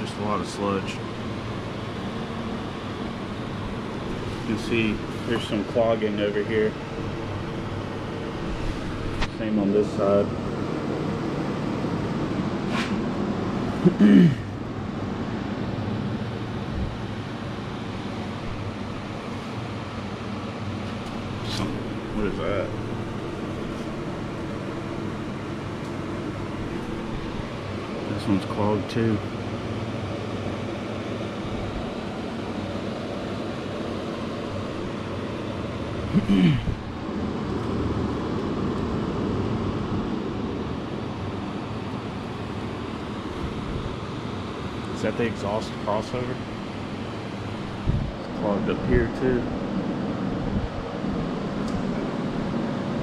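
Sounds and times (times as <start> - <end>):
fan running: 0.0 - 53.0
machine hum: 0.0 - 53.0.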